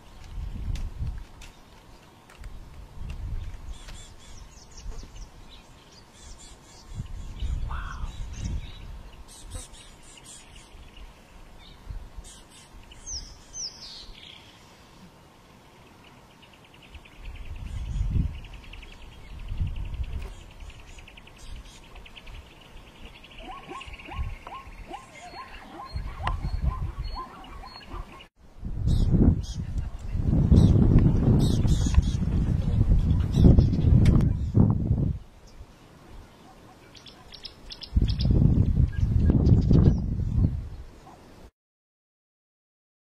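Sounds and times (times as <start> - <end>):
wild birds chirping: 1.4 - 41.5.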